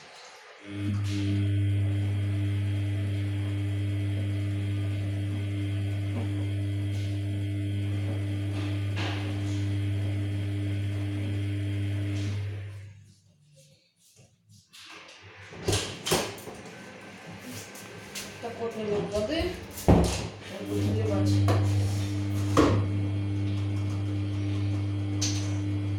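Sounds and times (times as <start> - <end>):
washing machine electrical hum: 0.0 - 13.2, 14.8 - 25.9.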